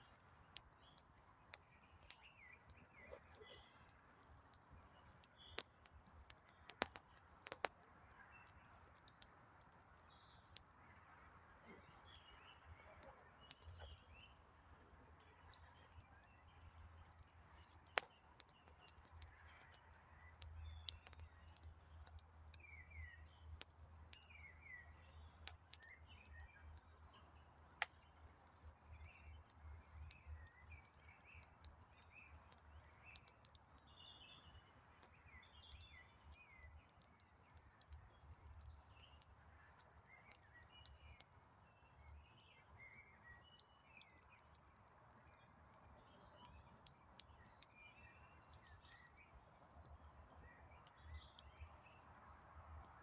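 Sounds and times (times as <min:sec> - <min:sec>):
faint campfire crackling: 0:00.0 - 0:53.0
small birds chirping: 0:00.0 - 0:53.0.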